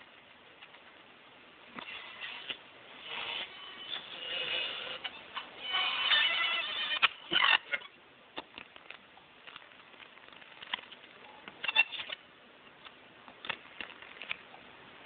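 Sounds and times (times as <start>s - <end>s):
radio crackles and clicks: 0.0s - 15.0s.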